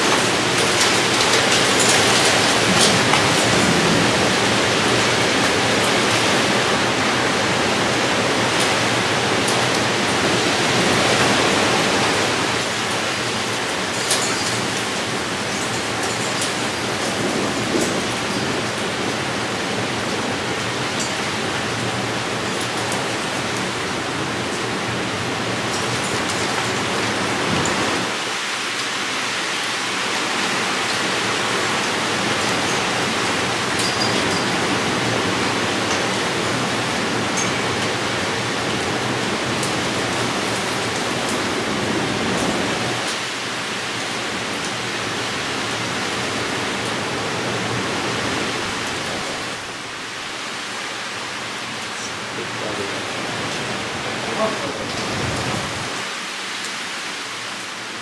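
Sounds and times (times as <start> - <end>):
heavy rain rushing: 0.0 - 58.0.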